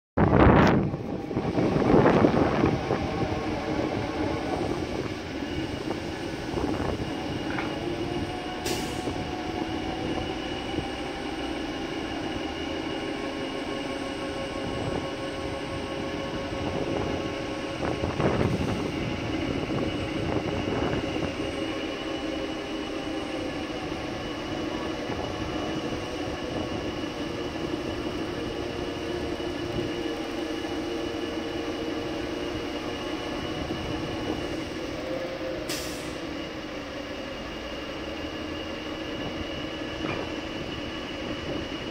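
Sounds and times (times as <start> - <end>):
crane engine and hydraulics whining: 0.2 - 41.9.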